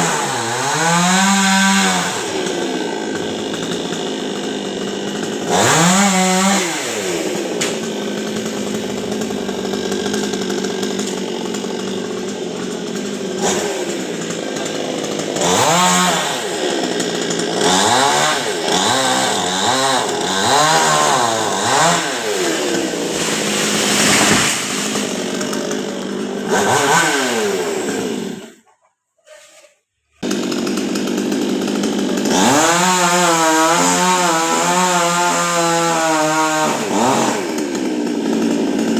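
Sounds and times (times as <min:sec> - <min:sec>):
chainsaw engine revving: 0:00.0 - 0:28.6, 0:30.2 - 0:38.9.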